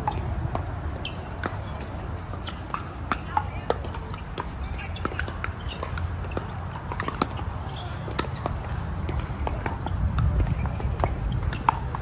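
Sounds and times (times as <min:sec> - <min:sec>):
ball bouncing on court: 0:00.0 - 0:12.0
paddles hitting plastic ball: 0:00.0 - 0:12.0.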